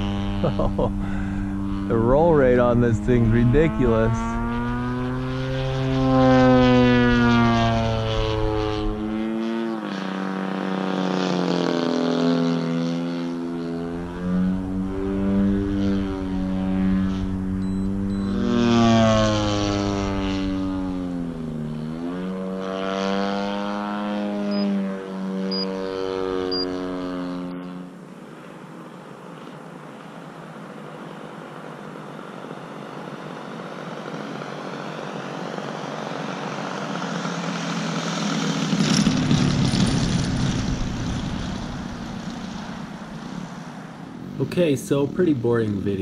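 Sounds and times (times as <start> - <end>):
model plane engine and propeller: 0.0 - 46.0.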